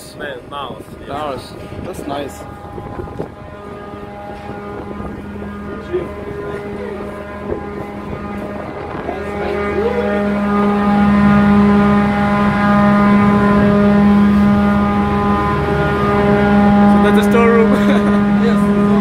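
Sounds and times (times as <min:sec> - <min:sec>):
ship machinery droning: 0:00.0 - 0:19.0.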